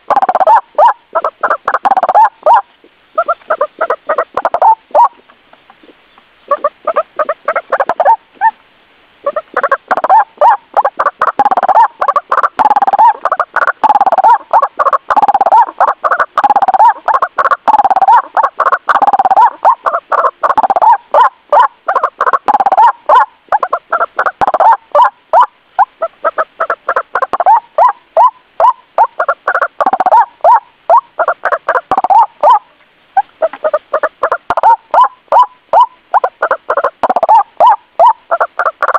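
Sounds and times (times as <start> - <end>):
waterhen croaking calls: 0.0 - 8.6, 9.2 - 38.9.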